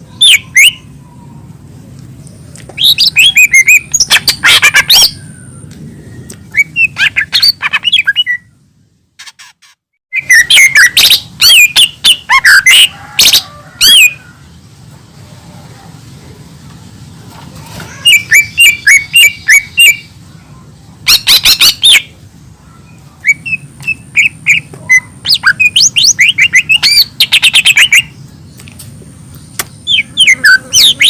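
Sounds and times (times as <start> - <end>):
bird singing rapid chirps: 0.0 - 1.6, 2.3 - 8.7, 10.1 - 14.6, 17.9 - 31.0.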